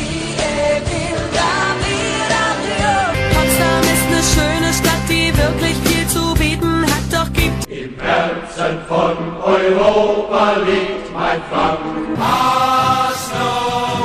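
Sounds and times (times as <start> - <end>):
football songs sung over backing music: 0.0 - 14.0.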